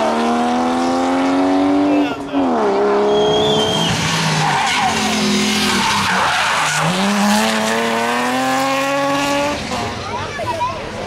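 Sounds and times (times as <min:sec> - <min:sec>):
rally car engine revving: 0:00.0 - 0:10.4
tyres skidding and squealing: 0:01.7 - 0:11.0.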